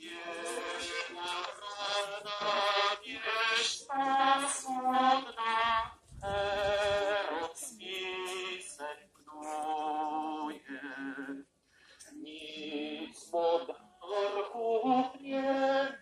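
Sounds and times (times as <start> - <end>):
voices singing slow melody: 0.0 - 16.0.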